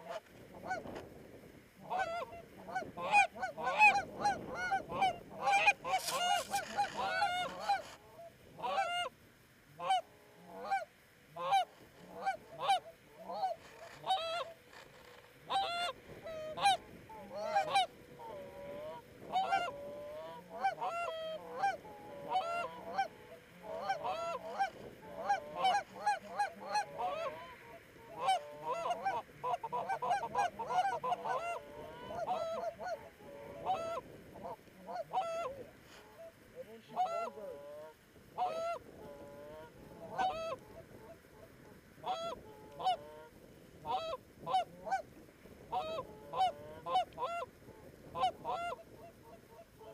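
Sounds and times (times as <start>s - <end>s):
goose honking: 0.0s - 1.0s, 1.8s - 45.0s, 45.7s - 49.9s.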